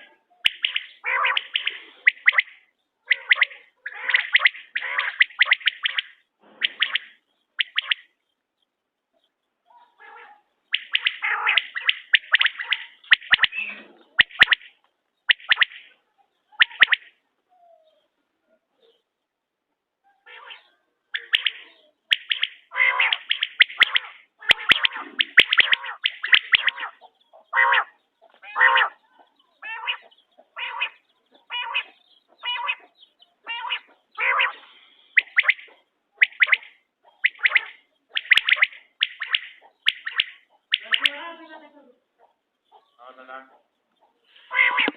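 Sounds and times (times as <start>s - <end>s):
quail calling: 0.0s - 8.2s, 9.2s - 18.1s, 20.1s - 41.6s, 42.2s - 44.9s.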